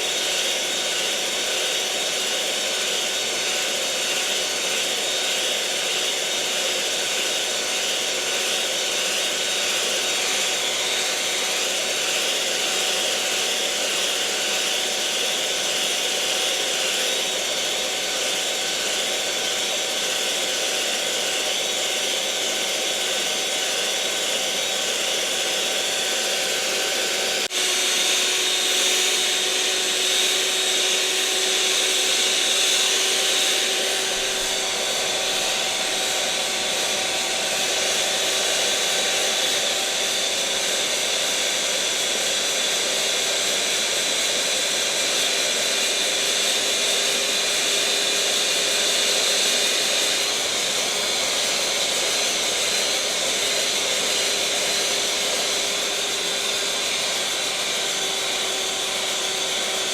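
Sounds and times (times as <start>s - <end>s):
electric mixer motor whirring: 0.0s - 59.9s.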